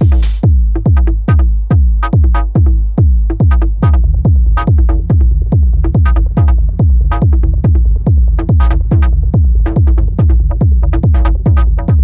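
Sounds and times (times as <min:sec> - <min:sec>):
deep kick drum: 0:00.0 - 0:12.0.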